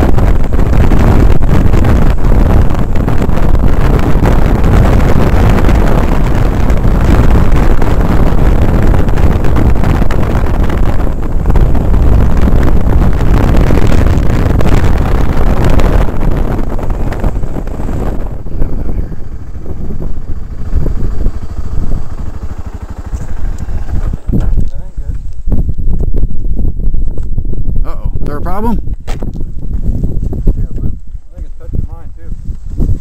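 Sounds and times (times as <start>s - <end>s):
motorcycle engine drone: 0.0s - 33.0s
wind rush on microphone: 0.0s - 33.0s.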